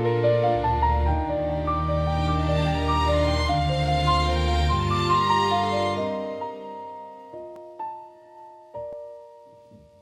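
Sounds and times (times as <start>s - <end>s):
slow soft piano music: 0.0s - 10.0s.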